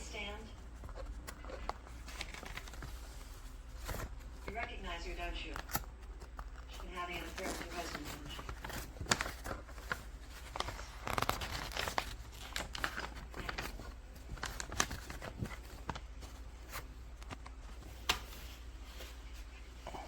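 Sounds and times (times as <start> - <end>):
rustling and crinkling: 0.0 - 20.0
steady low hum: 0.0 - 20.0.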